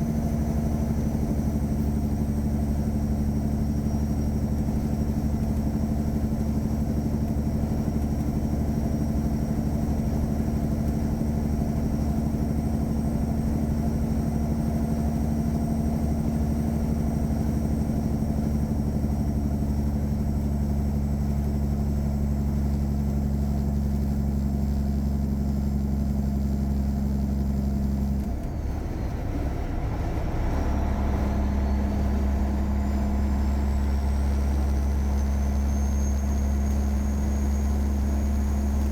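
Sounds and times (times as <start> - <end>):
diesel truck engine pulling: 0.0 - 38.9.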